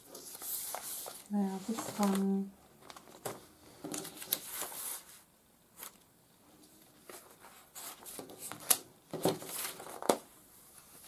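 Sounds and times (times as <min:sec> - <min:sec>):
paper crackles: 0:00.0 - 0:05.2, 0:07.0 - 0:11.0
paper rustling and sliding: 0:00.0 - 0:06.0, 0:07.0 - 0:11.0.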